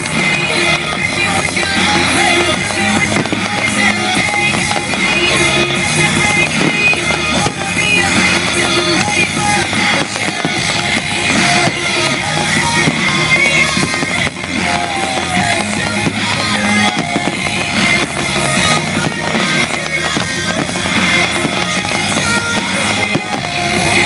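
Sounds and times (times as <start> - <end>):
firework bangs: 0.0 - 24.0
rock music with electric guitar: 0.0 - 24.0.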